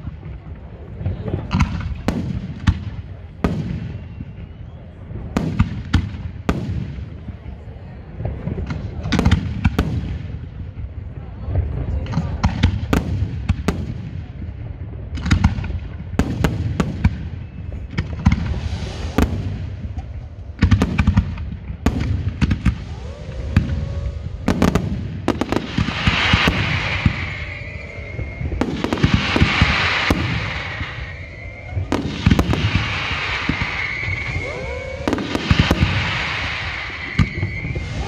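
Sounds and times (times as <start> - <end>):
fireworks bangs: 0.0 - 38.0
fireworks crackling: 0.0 - 38.0.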